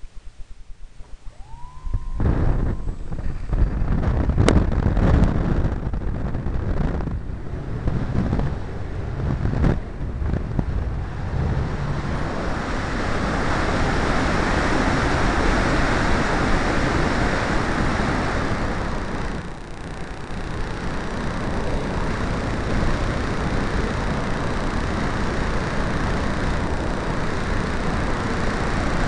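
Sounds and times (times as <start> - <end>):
air rushing over microphone: 1.2 - 29.0.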